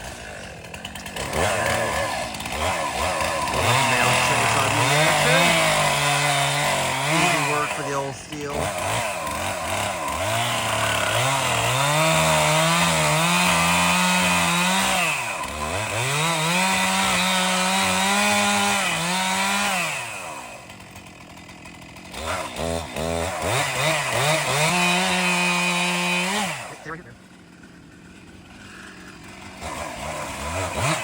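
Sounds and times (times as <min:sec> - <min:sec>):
stump grinder grinding a stump: 0:00.0 - 0:31.0.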